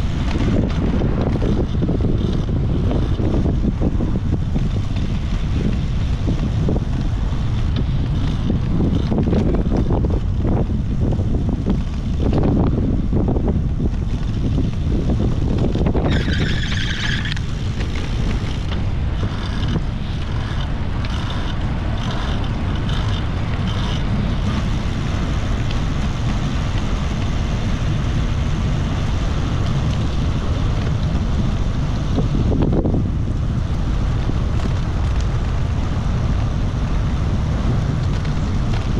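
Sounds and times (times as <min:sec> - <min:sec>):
tyre noise on asphalt: 0:00.0 - 0:38.9
wind buffeting microphone: 0:00.0 - 0:38.9.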